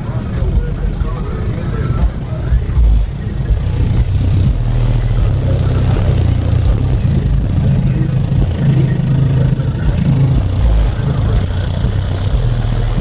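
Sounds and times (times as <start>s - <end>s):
subwoofers playing loud bass: 0.0s - 13.0s.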